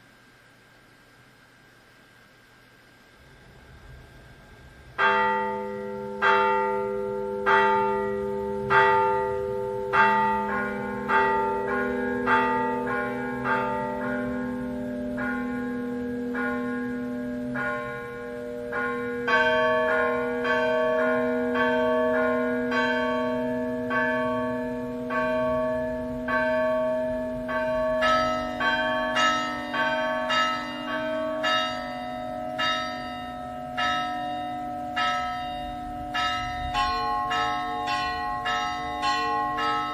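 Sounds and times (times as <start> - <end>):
church bells ringing: 4.5 - 39.9
higher bells ringing: 4.9 - 39.9.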